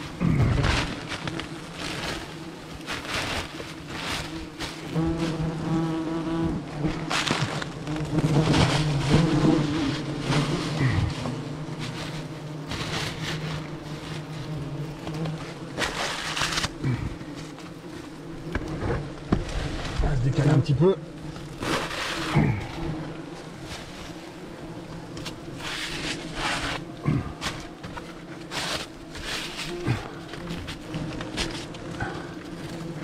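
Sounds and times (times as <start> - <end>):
papery nest crackling and tearing: 0.0 - 20.6, 21.2 - 33.0
wasps buzzing: 0.0 - 33.0.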